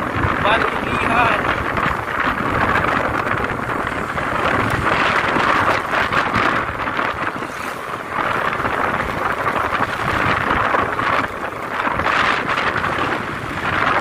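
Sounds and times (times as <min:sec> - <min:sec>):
motorcycle engine: 0:00.0 - 0:14.0
road noise: 0:00.0 - 0:14.0
wind rushing over microphone: 0:00.0 - 0:14.0.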